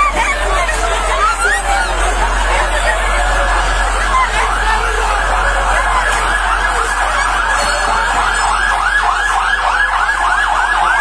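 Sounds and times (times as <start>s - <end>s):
fire engine siren yelping: 0.0s - 11.0s.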